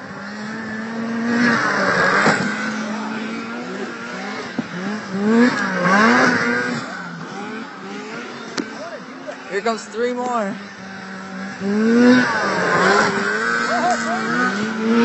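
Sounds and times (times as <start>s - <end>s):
snowmobile engine racing past: 0.0s - 15.0s.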